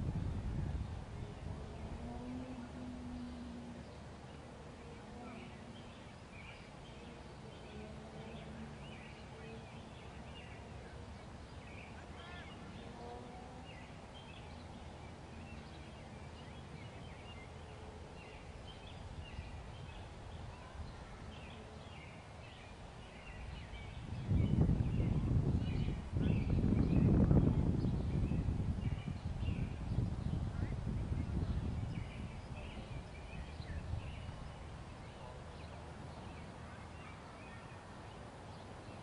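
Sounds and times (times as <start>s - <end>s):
faint low outdoor hum: 0.0s - 39.0s
small birds chirping: 0.2s - 39.0s.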